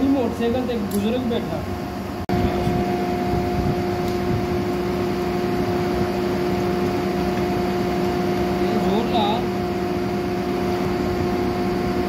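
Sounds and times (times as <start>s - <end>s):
machine humming steadily: 0.0s - 12.0s.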